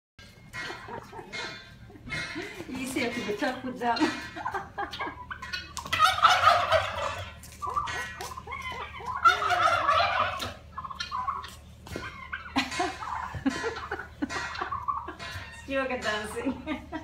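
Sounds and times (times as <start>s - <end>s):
turkeys gobbling: 0.2s - 17.0s.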